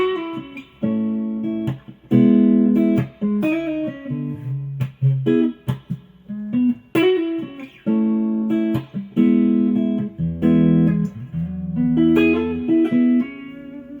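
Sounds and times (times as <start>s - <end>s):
electric guitar riffing: 0.0s - 14.0s.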